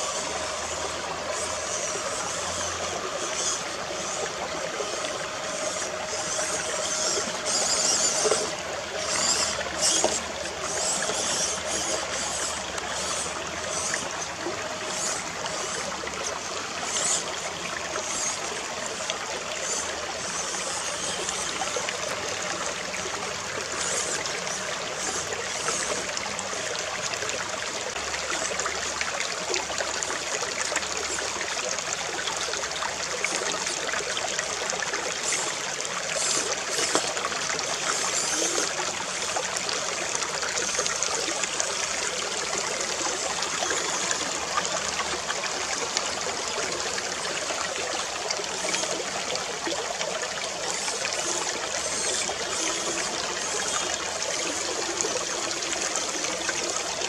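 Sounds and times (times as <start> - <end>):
stream trickling and babbling: 0.0 - 57.0.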